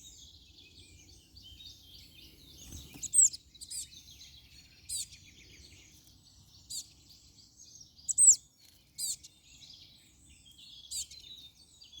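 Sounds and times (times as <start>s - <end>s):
faint bird twittering: 0.0s - 12.0s.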